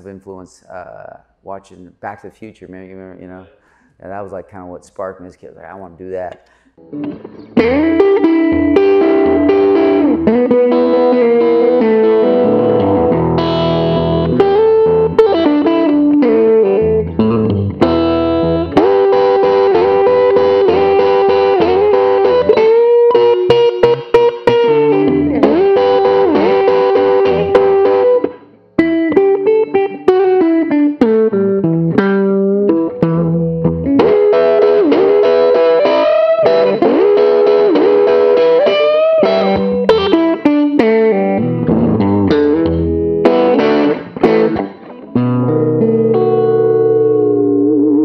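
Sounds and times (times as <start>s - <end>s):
electric guitar lead with bends: 6.5s - 48.0s.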